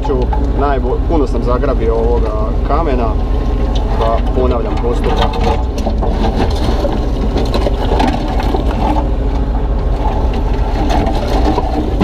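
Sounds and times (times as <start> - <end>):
excavator diesel engine running: 0.0 - 12.0
bucket digging into concrete: 1.2 - 12.0.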